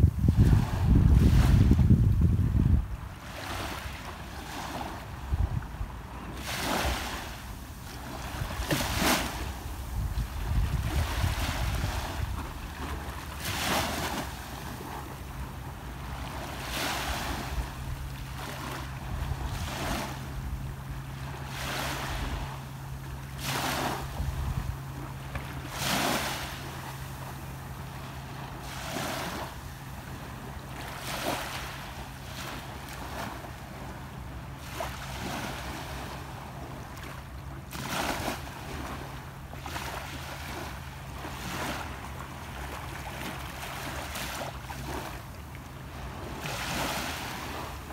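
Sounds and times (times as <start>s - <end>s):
small waves lapping on shore: 0.0s - 47.9s
steady low hum: 0.0s - 47.9s.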